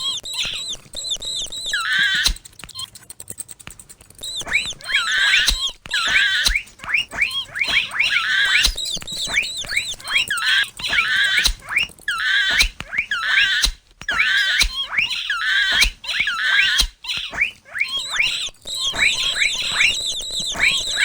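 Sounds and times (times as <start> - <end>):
mouse squeaking: 0.0 - 21.0.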